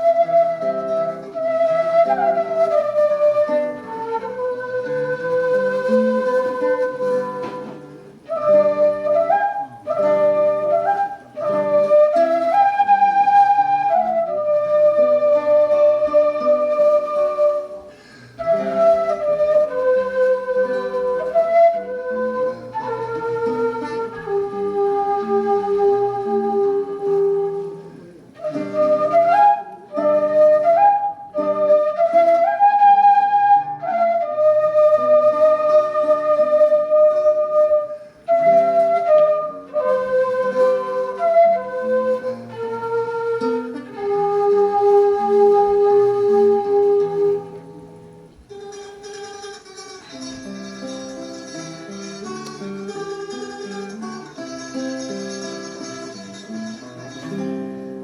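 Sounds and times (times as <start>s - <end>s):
end-blown flute melody: 0.0s - 47.9s
lower backing accompaniment: 0.0s - 58.0s.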